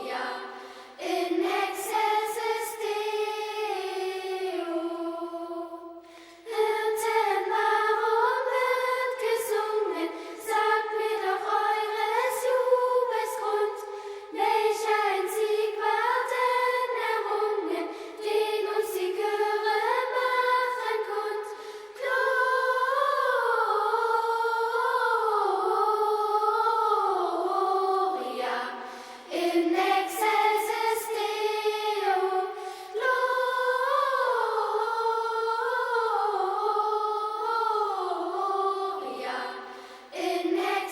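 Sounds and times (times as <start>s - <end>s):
choir of high voices singing: 0.0s - 40.9s.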